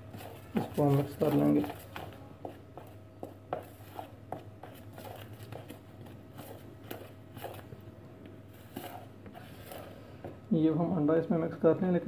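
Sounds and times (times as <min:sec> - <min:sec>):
dough mixed in plastic bowl: 0:00.0 - 0:11.0
low steady hum: 0:00.0 - 0:12.0.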